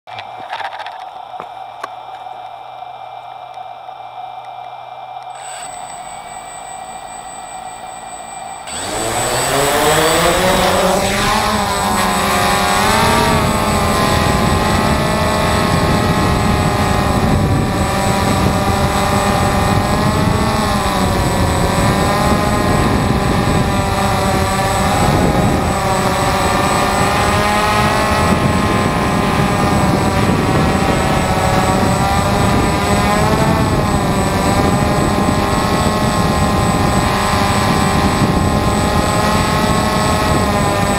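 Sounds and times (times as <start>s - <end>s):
drone propellers whirring: 0.1s - 40.9s.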